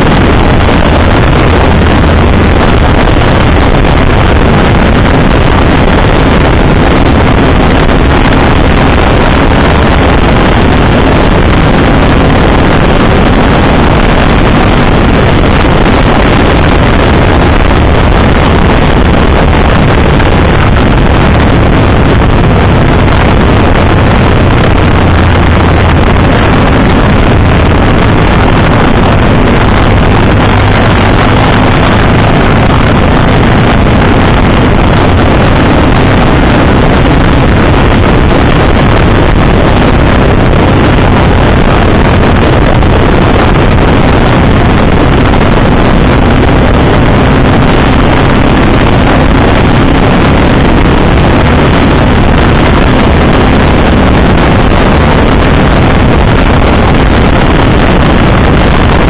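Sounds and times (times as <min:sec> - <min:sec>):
motorcycle engine droning: 0:00.0 - 0:59.0
wind rushing over microphone: 0:00.0 - 0:59.0.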